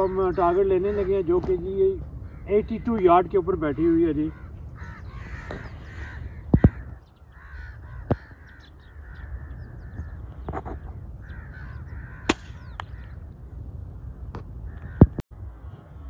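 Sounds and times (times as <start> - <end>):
crows cawing: 0.0 - 13.3, 14.0 - 15.2.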